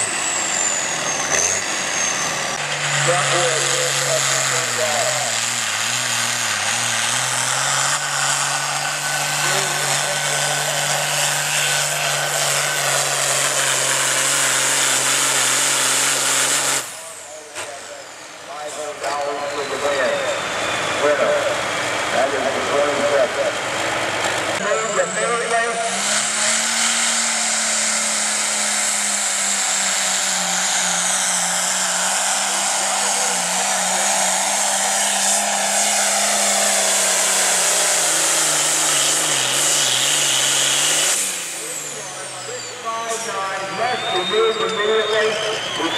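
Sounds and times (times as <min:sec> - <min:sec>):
high-pitched turbo whine: 0:00.0 - 0:45.9
tractor diesel engine at full throttle: 0:00.0 - 0:45.9.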